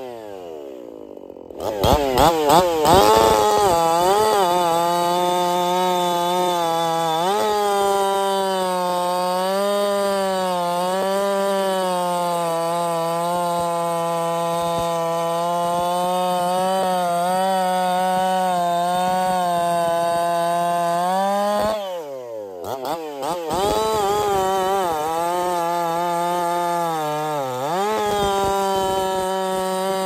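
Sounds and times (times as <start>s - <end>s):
chainsaw cutting through log: 0.0s - 30.0s.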